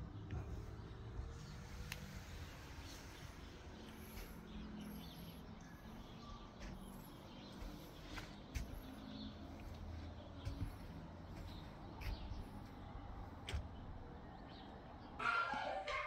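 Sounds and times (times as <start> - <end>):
distant bird chirp: 0.0 - 16.0.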